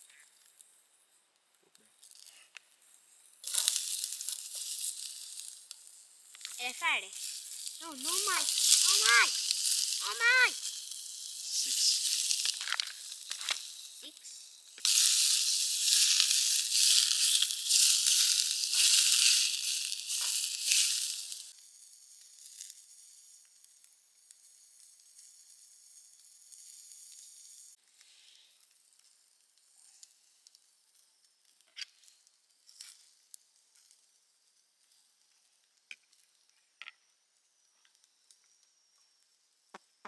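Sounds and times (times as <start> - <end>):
sausages sizzling in a pan: 0.0 - 40.0.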